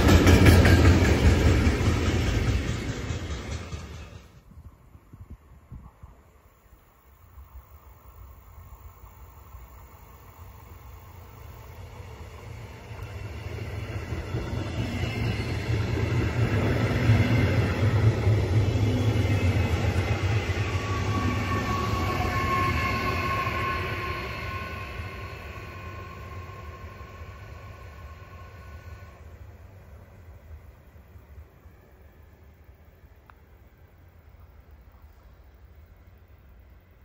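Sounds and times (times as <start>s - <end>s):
train wheels rumbling on rails: 0.0s - 6.5s, 7.2s - 37.0s.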